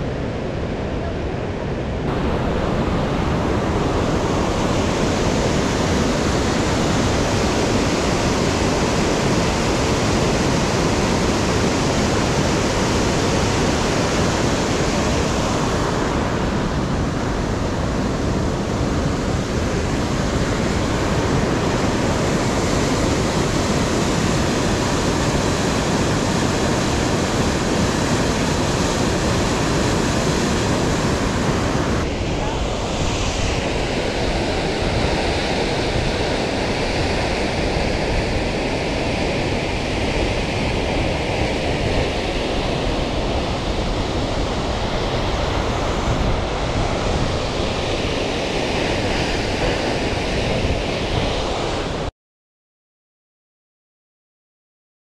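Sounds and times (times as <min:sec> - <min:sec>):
rushing waterfall and river: 0:01.8 - 0:52.1.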